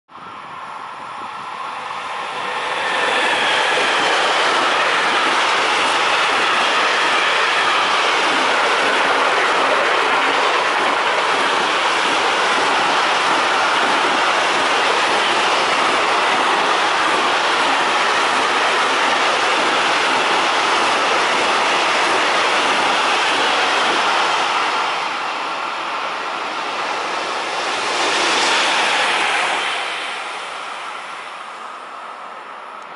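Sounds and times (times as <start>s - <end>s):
freight train wheels rushing on rails: 0.2s - 32.9s.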